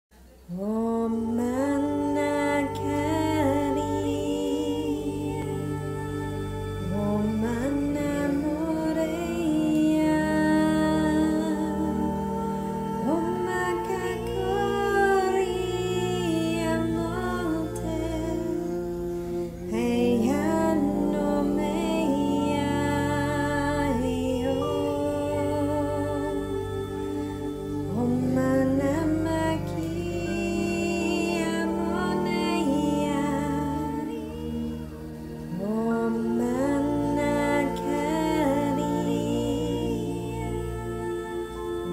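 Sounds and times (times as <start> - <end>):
steady drone: 0.2 - 41.9
person humming and singing: 0.4 - 41.9.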